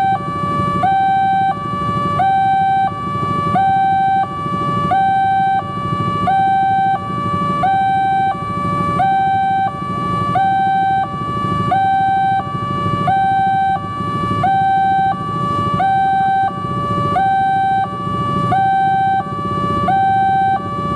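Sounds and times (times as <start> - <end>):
level crossing two-tone alarm: 0.0 - 20.9.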